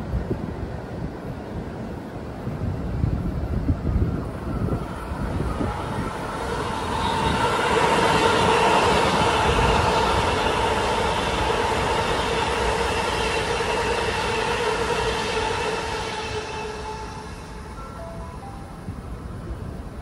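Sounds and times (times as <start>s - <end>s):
pitched train whine: 0.0s - 20.0s
train wheels rumbling on rail: 0.0s - 20.0s.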